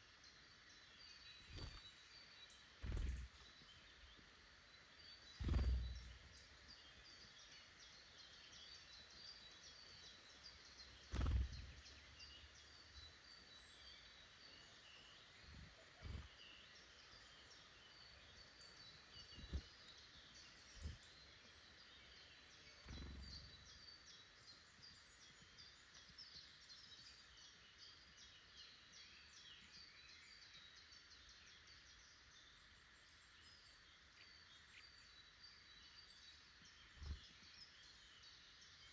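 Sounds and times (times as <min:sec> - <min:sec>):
small forest birds chirping: 0:00.0 - 0:38.9.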